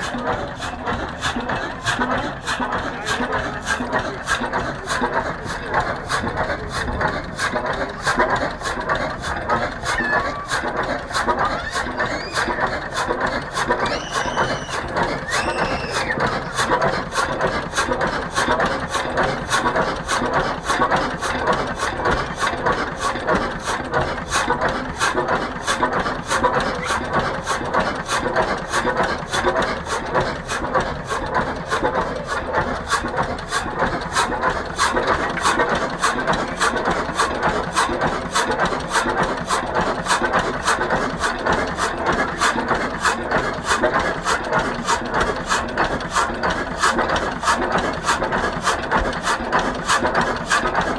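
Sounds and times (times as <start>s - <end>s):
engine knocking slowly: 0.0s - 50.9s.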